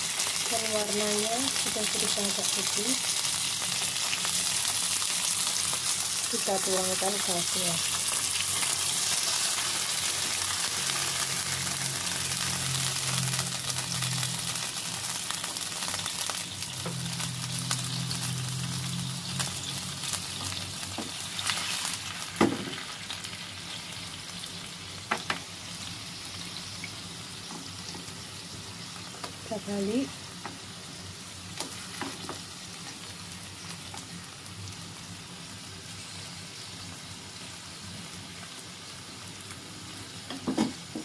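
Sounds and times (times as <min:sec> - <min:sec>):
sauce sizzling and bubbling: 0:00.0 - 0:41.0.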